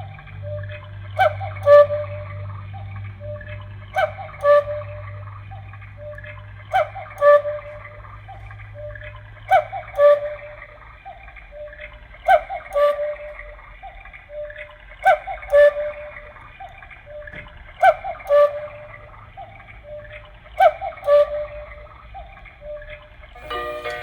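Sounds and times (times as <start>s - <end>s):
cuckoo clock call: 0.0s - 24.0s.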